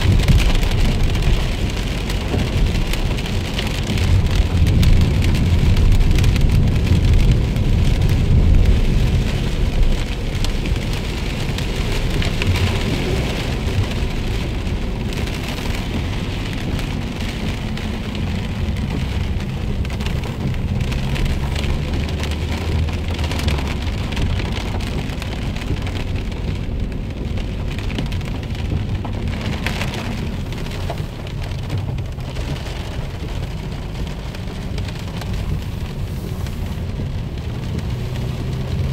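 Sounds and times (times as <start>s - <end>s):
car engine and tyres rumbling: 0.0s - 38.9s
heavy rain on car body: 0.0s - 38.9s.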